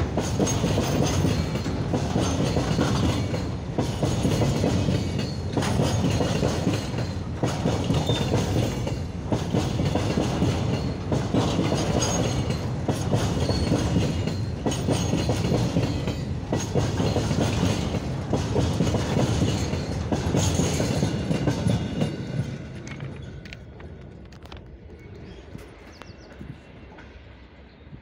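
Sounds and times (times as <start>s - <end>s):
wheels clicking over rail joints: 0.0s - 26.1s
freight train wagons rolling past: 0.0s - 28.0s.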